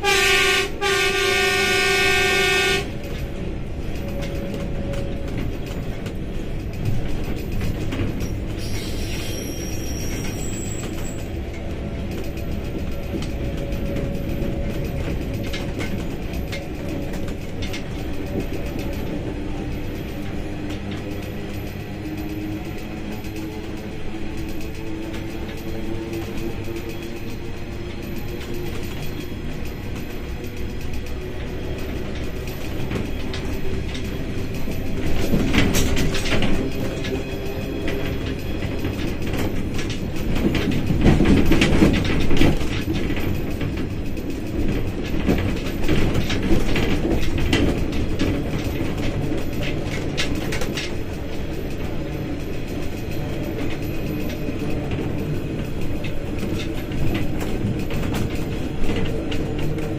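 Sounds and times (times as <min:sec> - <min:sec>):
train wheels clattering on rails: 0:00.0 - 0:59.9.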